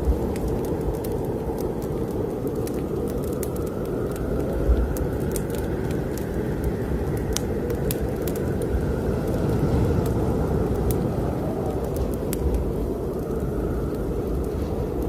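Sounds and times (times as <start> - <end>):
snowstorm wind rushing: 0.0 - 15.0
wood fire crackling: 0.0 - 15.0.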